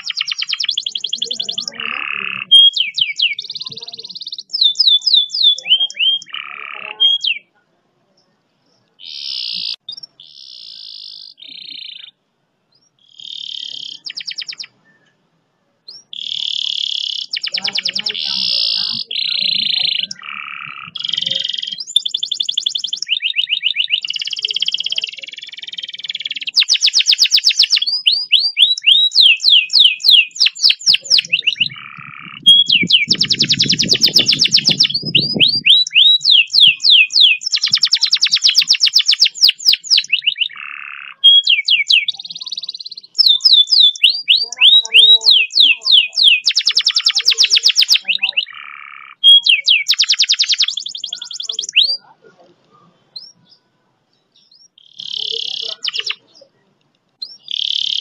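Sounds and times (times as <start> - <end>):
canary singing trills: 0.0 - 15.2, 15.8 - 58.0.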